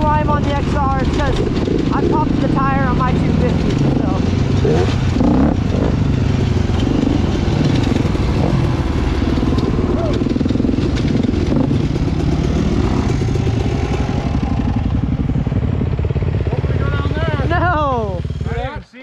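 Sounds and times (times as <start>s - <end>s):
dirt bike engine running: 0.0s - 18.8s.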